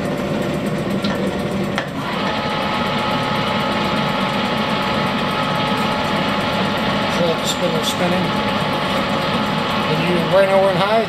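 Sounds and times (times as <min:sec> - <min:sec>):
lathe motor humming: 0:00.0 - 0:11.0
whining spindle tones: 0:00.0 - 0:11.0.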